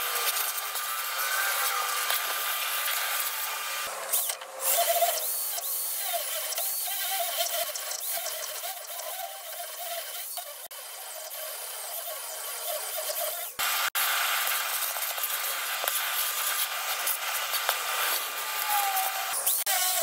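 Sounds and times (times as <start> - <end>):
hammer drill boring into steel: 0.0 - 13.6, 14.4 - 20.0.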